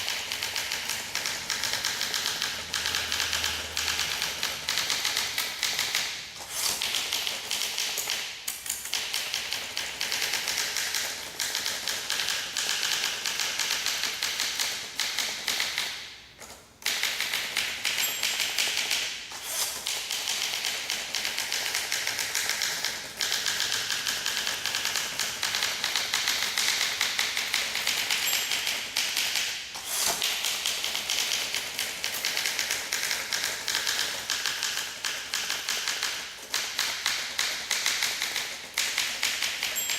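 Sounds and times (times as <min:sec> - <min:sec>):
typewriter keystroke clacks: 0:00.0 - 0:39.9.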